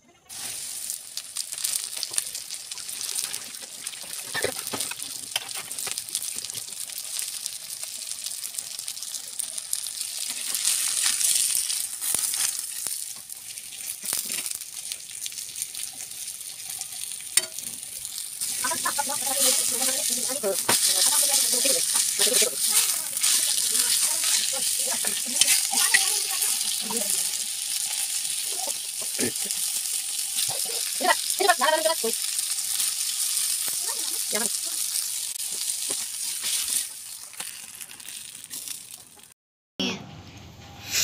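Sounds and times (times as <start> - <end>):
fish sizzling in a pan: 0.3 - 39.3.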